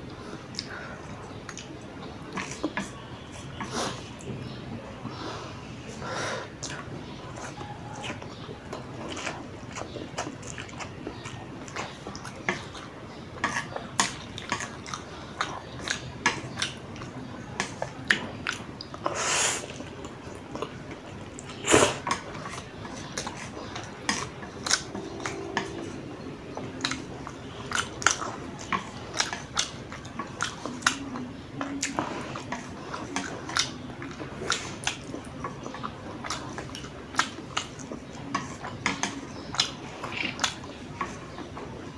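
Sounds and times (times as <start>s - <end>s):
wet chewing with mouth clicks: 0.0s - 5.2s, 5.8s - 41.9s.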